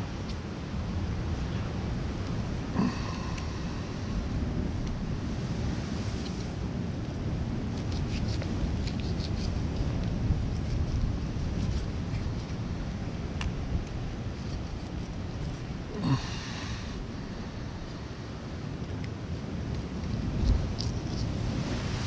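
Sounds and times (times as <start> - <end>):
ocean surf rumbling: 0.0 - 22.0
wind: 0.0 - 22.0.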